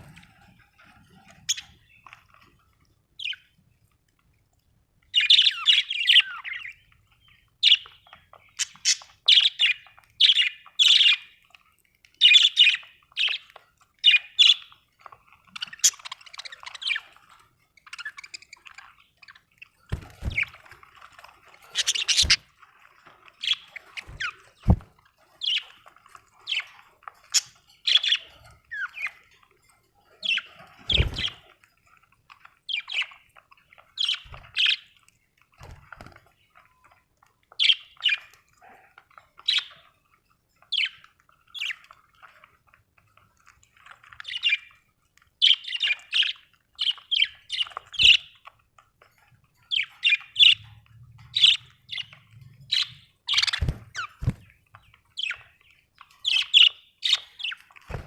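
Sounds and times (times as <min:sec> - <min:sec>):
budgerigars chirping and squawking: 0:00.0 - 0:03.6, 0:05.1 - 0:42.7, 0:43.6 - 0:58.0.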